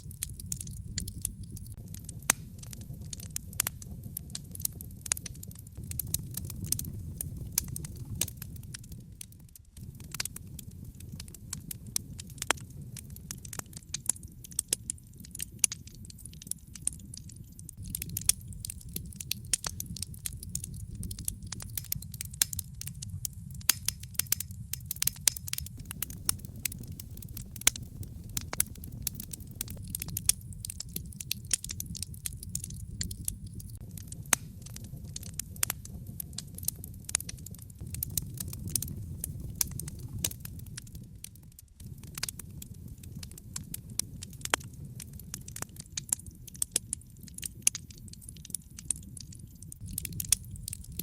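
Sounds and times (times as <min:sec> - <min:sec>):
fire snapping and popping: 0:00.0 - 0:51.0
low rumble of flames: 0:00.0 - 0:51.0.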